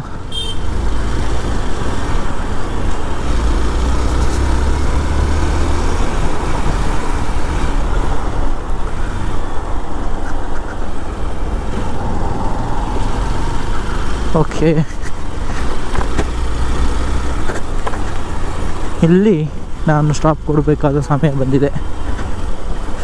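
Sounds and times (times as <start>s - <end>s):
motorcycle engine: 0.0s - 19.0s
tyres on rough road: 0.0s - 23.0s.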